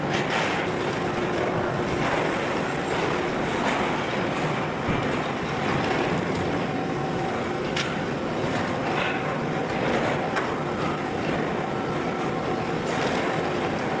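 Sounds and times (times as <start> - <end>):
heavy machinery running: 0.0 - 14.0.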